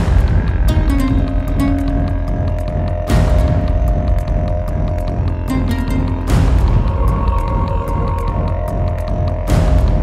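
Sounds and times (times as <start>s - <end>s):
background music with held notes: 0.0s - 10.0s
steady low rumble: 0.0s - 10.0s.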